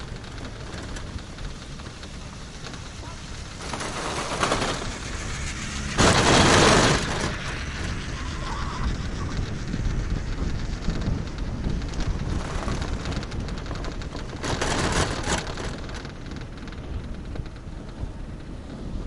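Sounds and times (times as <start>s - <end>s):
chairlift low rumble: 0.0s - 19.0s
wind buffeting: 0.0s - 19.0s.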